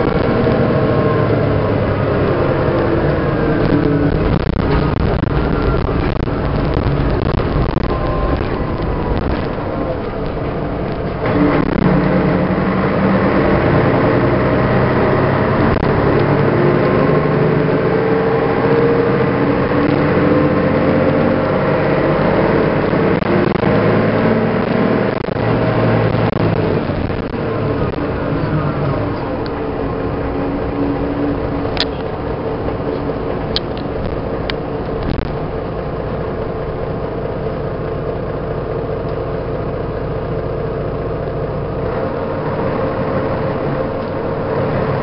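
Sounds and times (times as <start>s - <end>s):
bus diesel engine accelerating: 0.0s - 45.0s.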